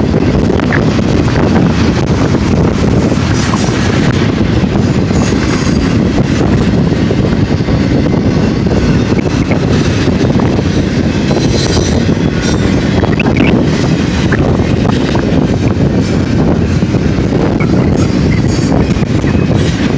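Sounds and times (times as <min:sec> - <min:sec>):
train wheels rumbling on rails: 0:00.0 - 0:19.9.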